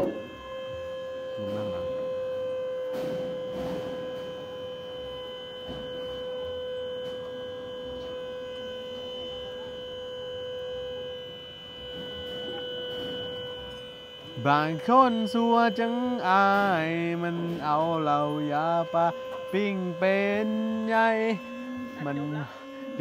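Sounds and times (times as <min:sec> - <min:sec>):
hydraulic pump whine: 0:00.0 - 0:23.0.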